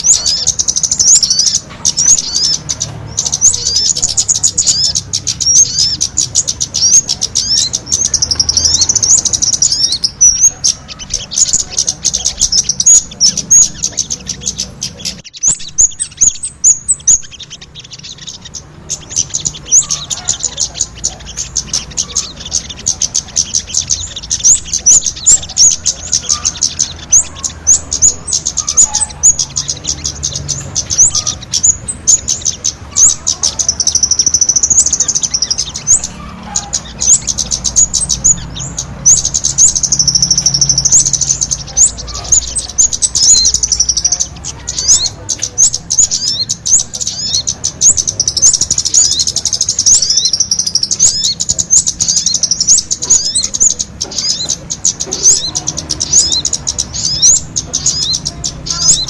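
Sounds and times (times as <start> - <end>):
bird trilling: 0.0 - 59.0
high rapid bird chirps: 0.0 - 59.0.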